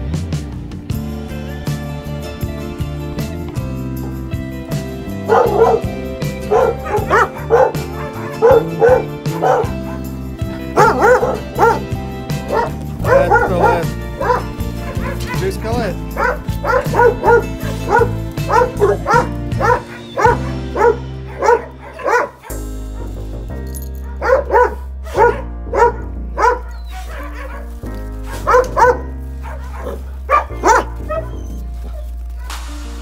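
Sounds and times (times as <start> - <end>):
background music of held chords: 0.0 - 33.0
dog barking: 5.2 - 23.3, 24.0 - 32.6.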